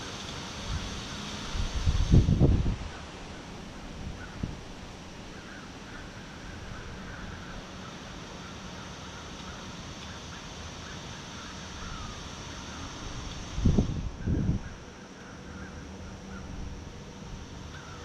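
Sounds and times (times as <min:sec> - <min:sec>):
wind rustling through trees: 0:00.0 - 0:18.0.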